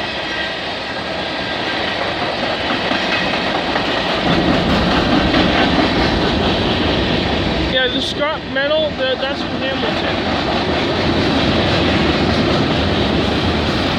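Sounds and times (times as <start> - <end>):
steel wheels rumbling on rail: 0.0 - 13.9
wheels clacking over rail joints: 0.3 - 13.9.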